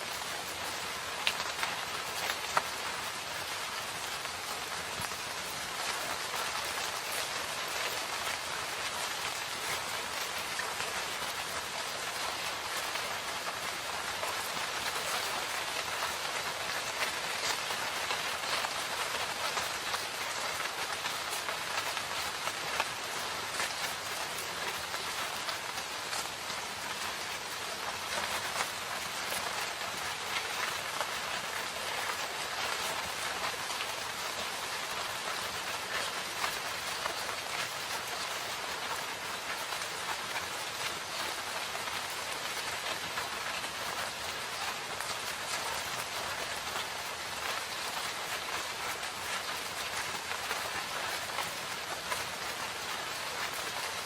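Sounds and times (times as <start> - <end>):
raindrops pattering: 0.0 - 54.0
steady rain hiss: 0.0 - 54.0.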